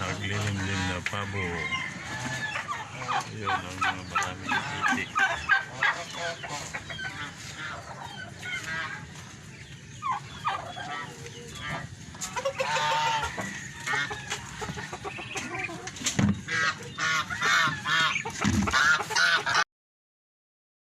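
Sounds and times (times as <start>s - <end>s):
poultry clucking and squawking: 0.0s - 19.6s.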